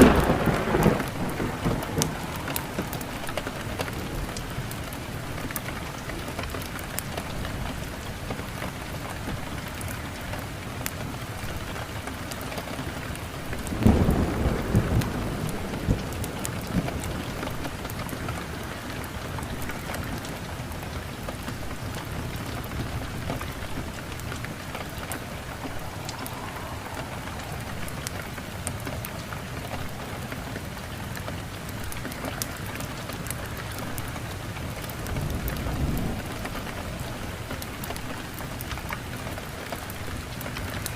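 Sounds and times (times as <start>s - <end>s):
thunder rumbling: 0.0s - 10.6s, 11.4s - 40.9s
heavy rain: 0.0s - 40.9s.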